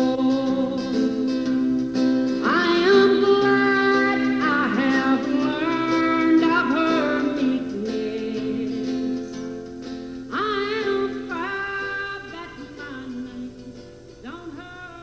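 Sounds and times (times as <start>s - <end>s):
guitar accompaniment: 0.0s - 15.0s
woman singing gospel song: 0.0s - 15.0s.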